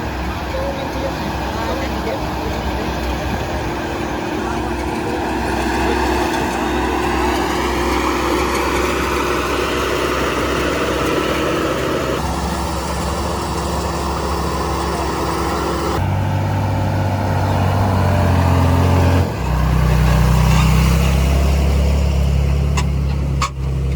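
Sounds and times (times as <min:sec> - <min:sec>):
heavy machinery diesel engine: 0:00.0 - 0:23.9.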